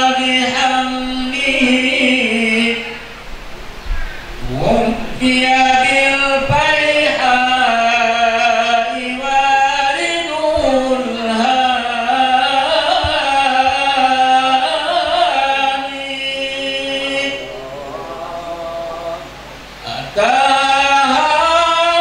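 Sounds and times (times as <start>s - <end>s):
voices chanting devotional verses: 0.0s - 22.0s.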